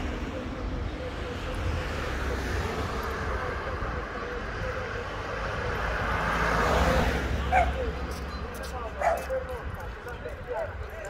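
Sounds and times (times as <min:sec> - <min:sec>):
car driving on tarmac: 0:00.0 - 0:11.0
low rumble of street noise: 0:00.0 - 0:11.0.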